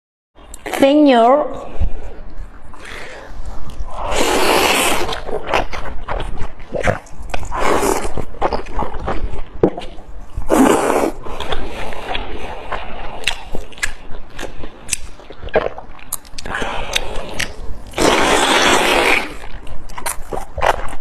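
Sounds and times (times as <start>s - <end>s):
person chewing with mouth clicks: 1.8s - 21.0s.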